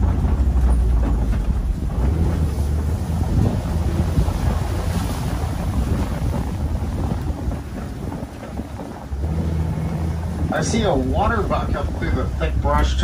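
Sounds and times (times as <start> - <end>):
road noise on dirt track: 0.0 - 13.0
truck engine running: 0.0 - 13.0
wind buffeting microphone: 0.0 - 13.0.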